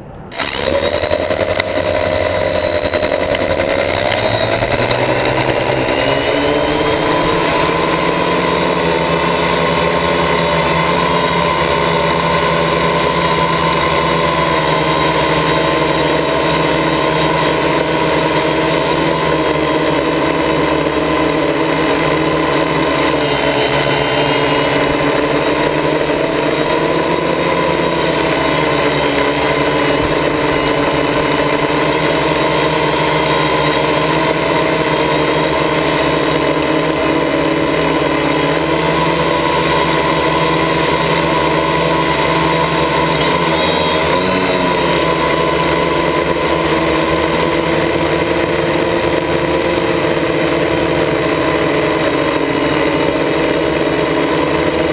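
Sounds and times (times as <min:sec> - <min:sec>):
drone propellers whirring: 0:00.0 - 0:54.9.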